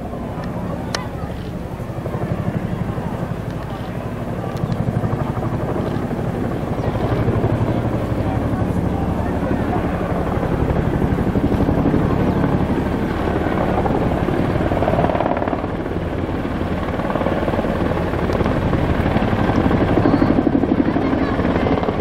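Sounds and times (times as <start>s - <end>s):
helicopter rotor chop: 0.0s - 22.0s.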